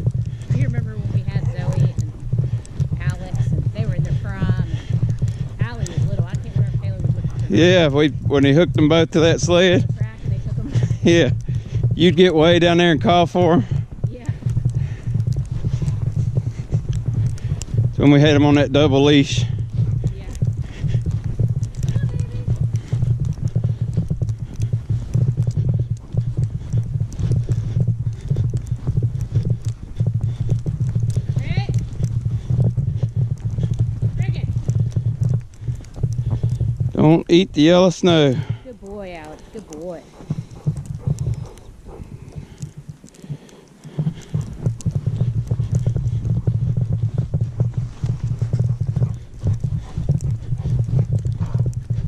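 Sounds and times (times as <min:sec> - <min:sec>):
footsteps crunching through snow: 0:00.0 - 0:52.0.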